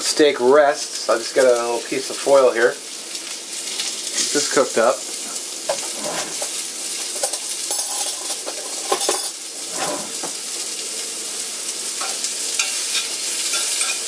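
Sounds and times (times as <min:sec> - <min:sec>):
mushrooms sizzling in hot oil: 0:00.0 - 0:14.0.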